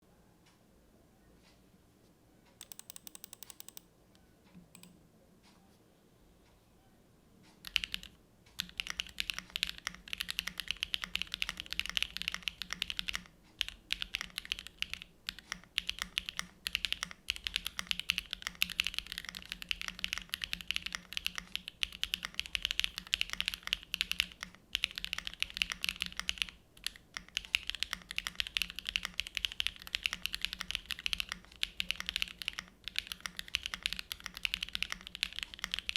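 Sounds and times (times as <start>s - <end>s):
mechanical keyboard typing: 2.6s - 3.9s, 4.7s - 4.9s, 7.6s - 35.9s.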